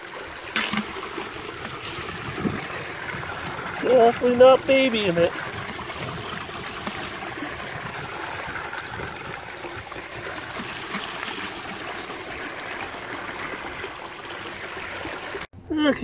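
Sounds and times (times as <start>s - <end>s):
water rushing down sluice box: 0.0s - 15.5s.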